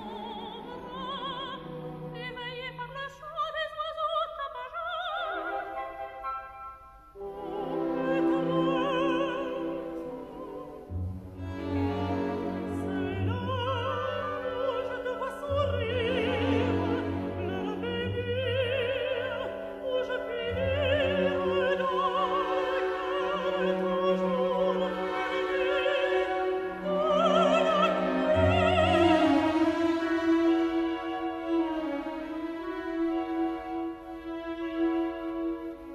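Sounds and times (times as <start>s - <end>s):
operatic singing with vibrato: 0.0s - 35.9s.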